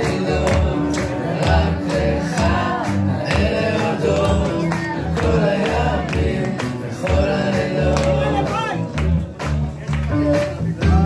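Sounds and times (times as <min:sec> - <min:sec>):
backing track with beat and bass: 0:00.0 - 0:11.0.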